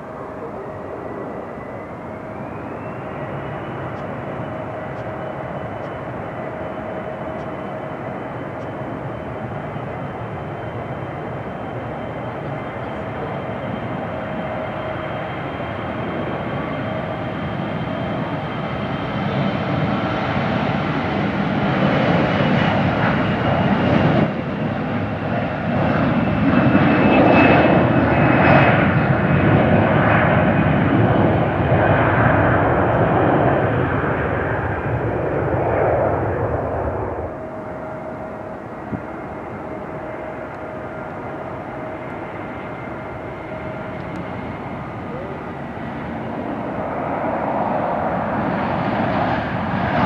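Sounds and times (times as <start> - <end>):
jet engines at takeoff thrust: 0.0 - 50.0.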